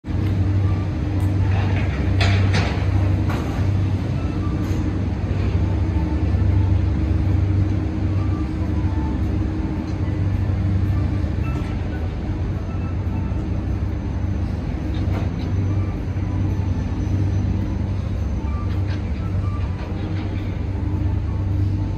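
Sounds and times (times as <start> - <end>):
low engine-like rumble: 0.0 - 21.9.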